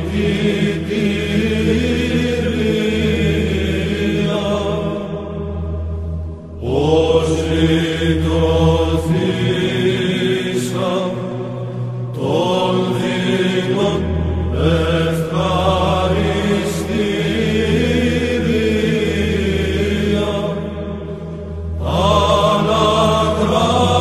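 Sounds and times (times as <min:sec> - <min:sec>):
chanted vocal music: 0:00.0 - 0:24.0
low drone: 0:00.0 - 0:24.0.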